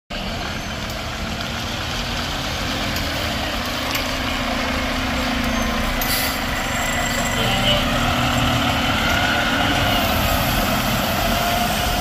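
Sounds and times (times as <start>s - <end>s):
diesel truck engine running: 0.1s - 12.0s.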